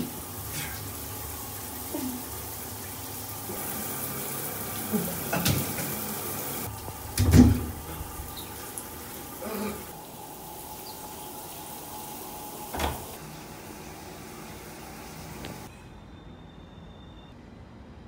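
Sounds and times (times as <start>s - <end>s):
running water in a bathtub: 0.0s - 15.7s.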